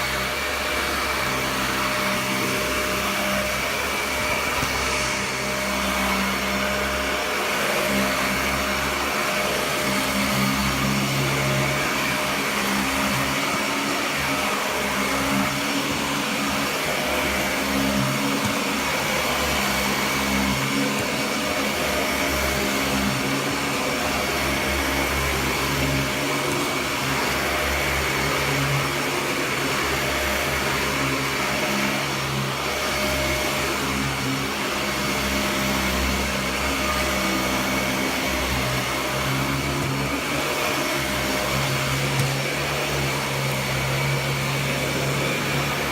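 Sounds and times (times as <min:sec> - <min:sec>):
upright vacuum cleaner running: 0:00.0 - 0:45.9.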